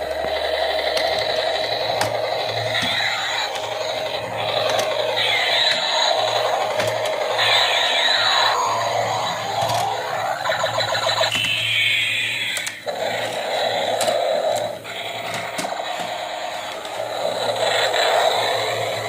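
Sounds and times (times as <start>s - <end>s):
falling whining sweeps: 0.0s - 19.0s
toy train motor whirring: 0.0s - 19.0s.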